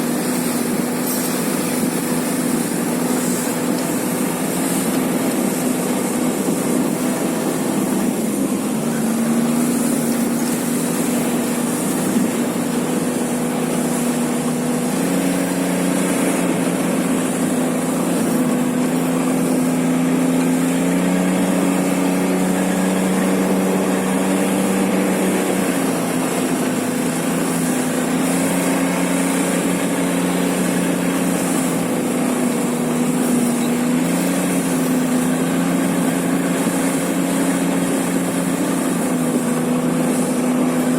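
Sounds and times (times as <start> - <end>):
engine running steadily: 0.0 - 40.9.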